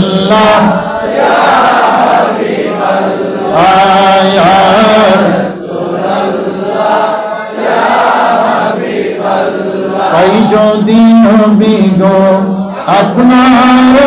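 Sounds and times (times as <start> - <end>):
male voices chanting: 0.0 - 14.0.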